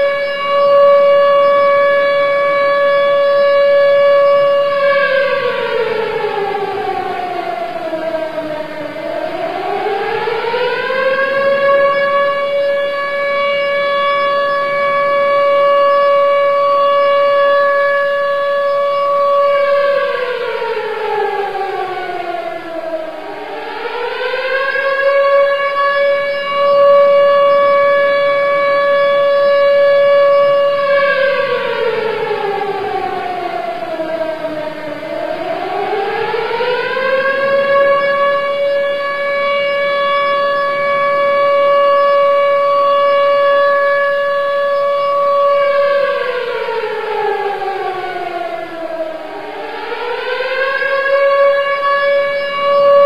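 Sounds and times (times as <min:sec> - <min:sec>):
siren wailing: 0:00.0 - 0:53.0.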